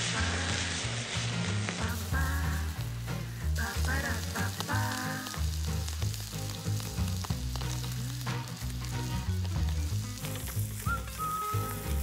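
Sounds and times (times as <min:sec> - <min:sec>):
background music with bass: 0:00.0 - 0:12.0
food sizzling in a skillet: 0:00.0 - 0:12.0.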